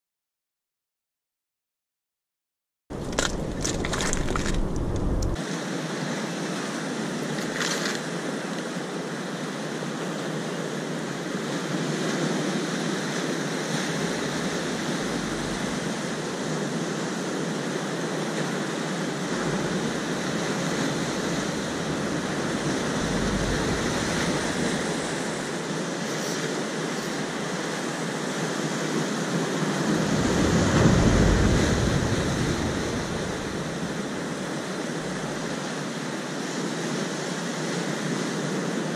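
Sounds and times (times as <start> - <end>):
sea surf breaking on rocks: 3.0 - 38.9.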